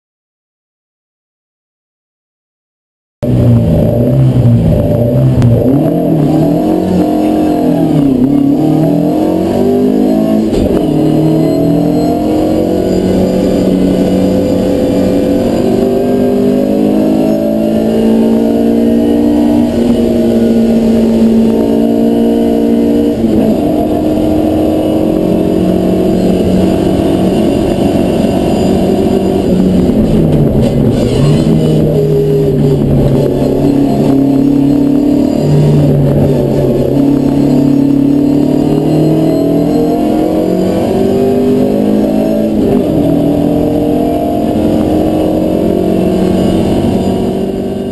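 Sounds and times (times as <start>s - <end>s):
car engine at full throttle: 3.2s - 47.9s.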